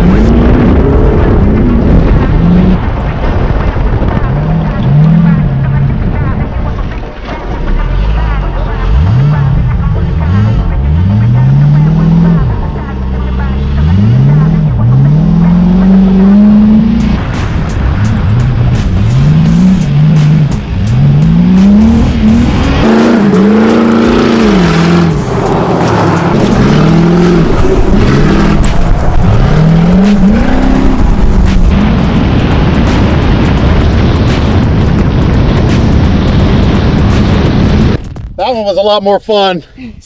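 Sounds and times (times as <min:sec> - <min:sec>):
car engine revving: 0:00.0 - 0:38.5.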